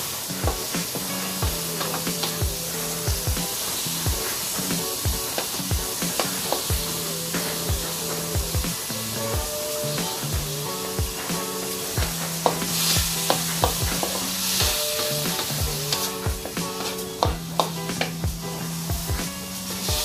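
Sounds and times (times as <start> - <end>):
meat sizzling in oil: 0.0 - 20.0
spatula scraping a wok: 0.0 - 20.0.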